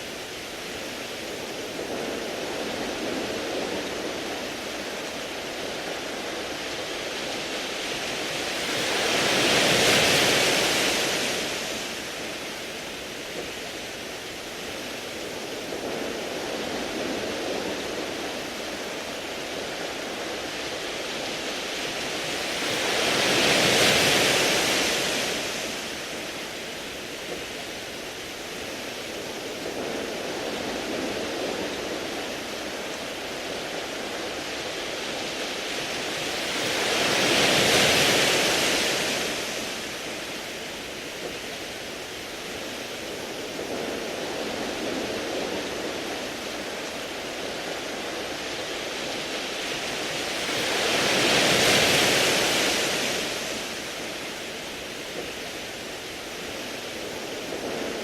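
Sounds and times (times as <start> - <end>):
waves breaking on pebble beach: 0.0 - 58.0.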